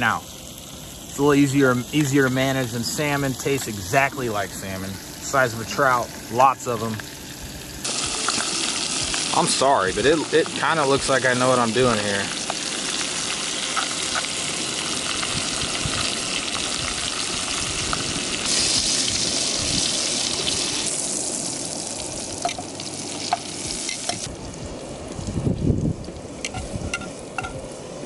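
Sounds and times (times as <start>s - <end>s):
food sizzling in a frying pan: 0.0s - 24.4s.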